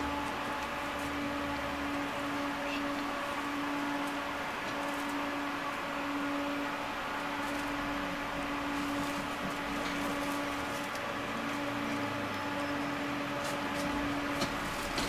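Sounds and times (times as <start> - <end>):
tram electrical hum and fan hiss: 0.0 - 15.0.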